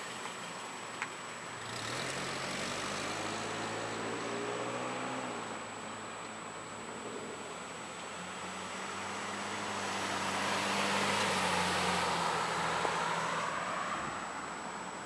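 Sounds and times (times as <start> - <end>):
vehicle engine hum passing: 1.5 - 15.0.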